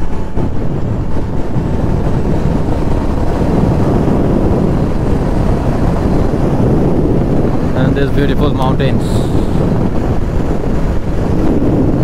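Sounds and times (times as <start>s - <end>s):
road and engine noise: 0.0s - 12.0s
wind buffeting microphone: 0.0s - 12.0s.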